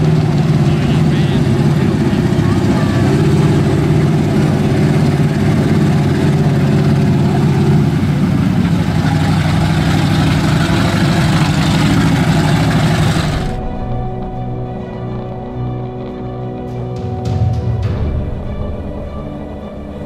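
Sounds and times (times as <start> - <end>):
background music: 0.0 - 20.0
truck engine running hard: 0.0 - 20.0.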